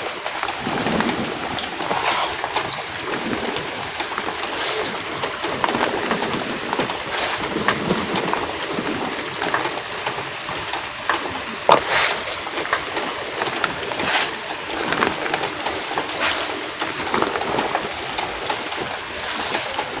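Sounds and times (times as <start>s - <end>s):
rain: 0.0s - 20.0s.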